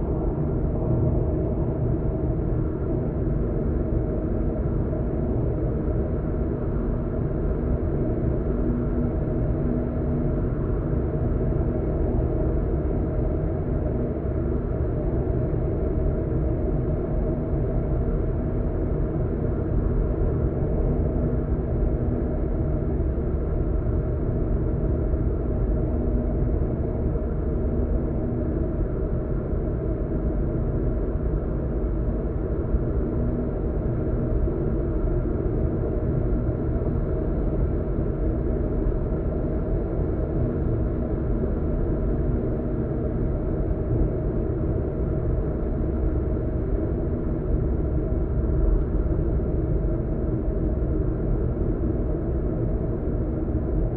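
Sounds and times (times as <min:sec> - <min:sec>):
faint hum: 0:00.0 - 0:53.9.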